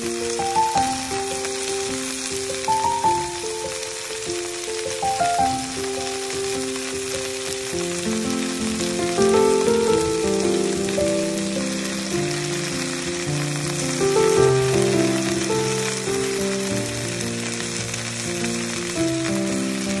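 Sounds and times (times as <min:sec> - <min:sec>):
background music melody: 0:00.0 - 0:20.0
greens sizzling in a hot pan: 0:00.0 - 0:20.0.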